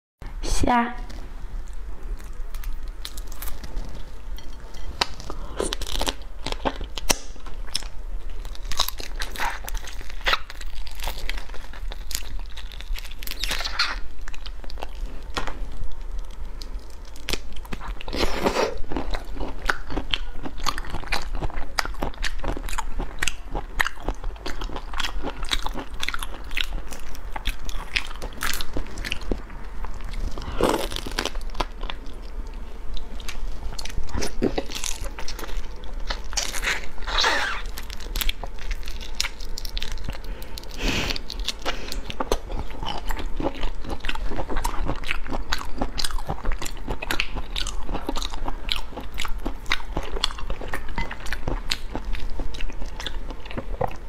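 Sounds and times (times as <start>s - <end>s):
chewing and crunching shrimp shells: 1.6s - 54.0s.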